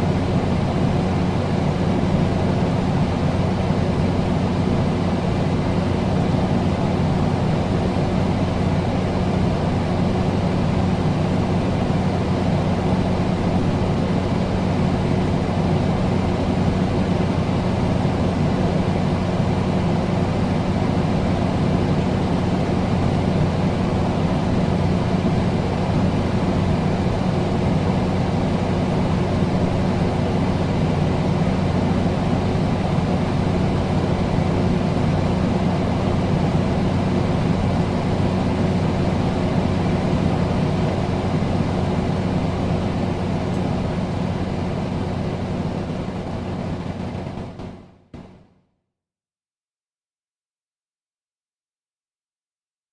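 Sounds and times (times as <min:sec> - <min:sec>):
air conditioner running: 0:00.0 - 0:48.3.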